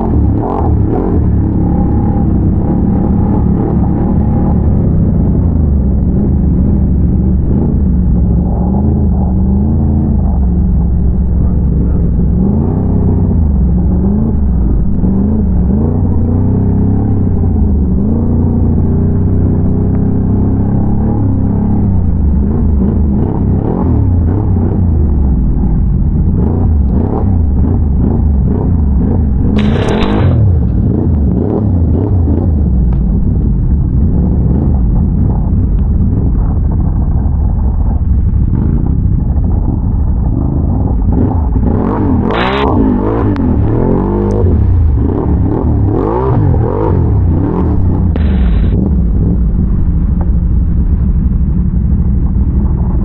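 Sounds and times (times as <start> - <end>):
atv engine revving: 0.0 - 53.0
rushes of noise: 0.0 - 53.0.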